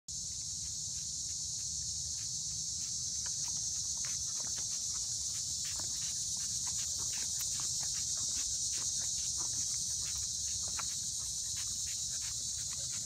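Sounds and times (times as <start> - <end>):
insect chorus drone: 0.1 - 13.0
footsteps on asphalt: 0.4 - 13.0.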